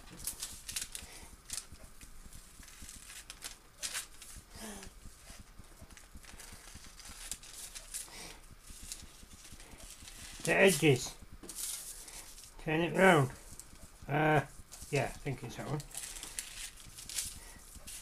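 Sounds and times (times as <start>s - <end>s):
paper rustling and crinkling: 0.0s - 12.6s, 13.2s - 18.0s.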